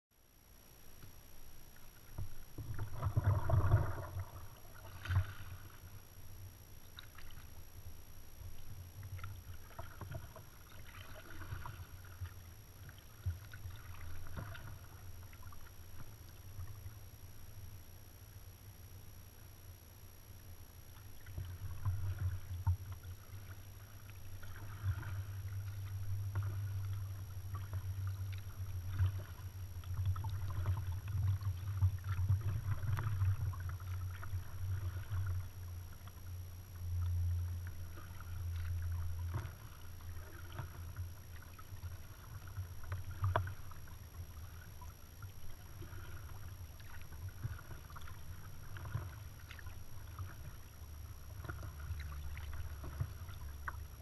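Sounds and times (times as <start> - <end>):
paddle splashing in water: 2.0 - 6.0, 6.8 - 7.6, 8.5 - 16.8, 21.0 - 36.2, 37.6 - 54.0.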